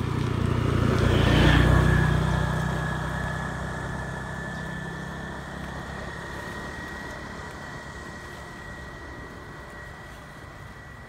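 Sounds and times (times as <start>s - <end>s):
high whine: 0.0s - 11.0s
motor engine humming: 0.0s - 11.0s.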